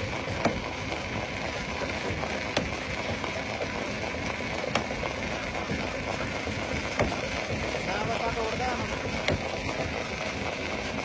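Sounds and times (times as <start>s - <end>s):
rock crusher running: 0.0s - 11.0s.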